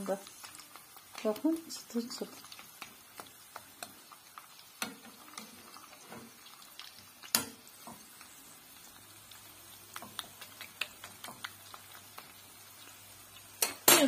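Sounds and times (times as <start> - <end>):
chicken frying in oil: 0.0 - 14.0.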